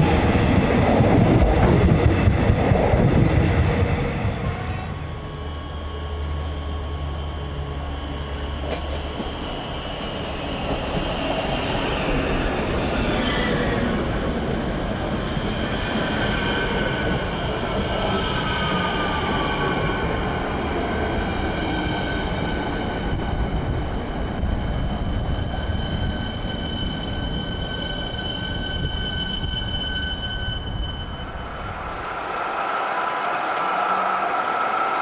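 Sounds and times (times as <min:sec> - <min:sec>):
electric train rumbling on track: 0:00.0 - 0:35.0
high-pitched train whine: 0:00.0 - 0:35.0.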